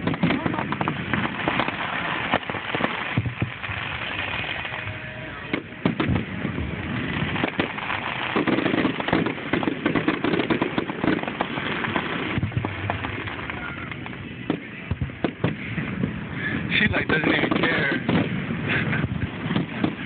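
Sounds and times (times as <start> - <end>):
fireworks bangs and crackles: 0.0 - 20.0
steady background noise: 0.0 - 20.0.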